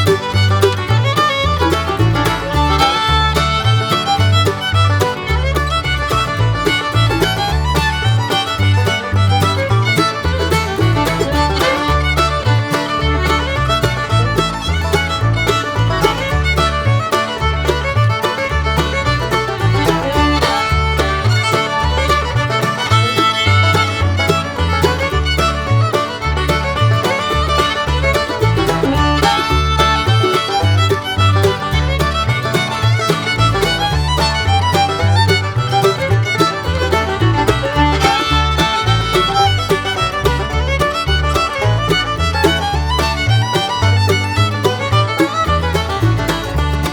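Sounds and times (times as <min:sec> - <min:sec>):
pulsing bass: 0:00.0 - 0:46.9
upbeat fiddle tune: 0:00.0 - 0:46.9.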